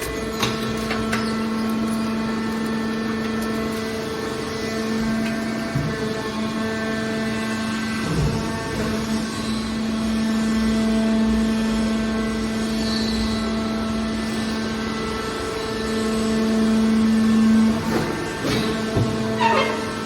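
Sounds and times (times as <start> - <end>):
hydraulic baler humming: 0.0 - 20.0.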